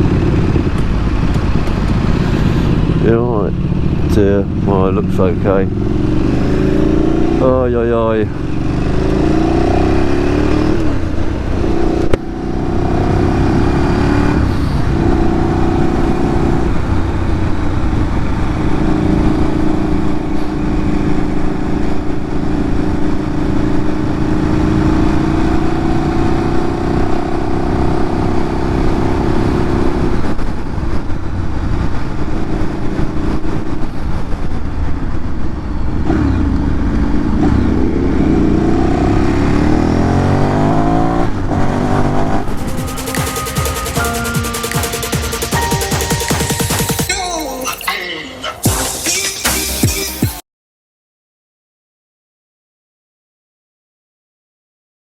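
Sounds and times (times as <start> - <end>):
motorcycle engine: 0.0 - 47.1.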